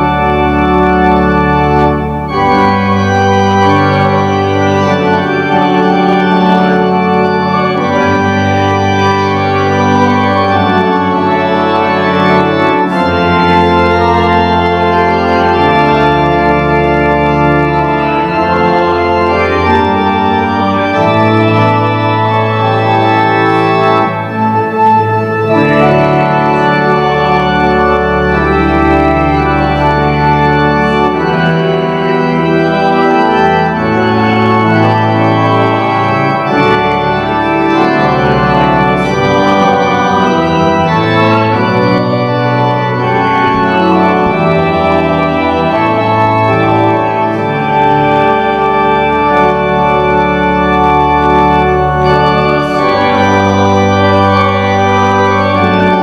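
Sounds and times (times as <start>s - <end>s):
church organ playing slow chords: 0.0s - 56.0s.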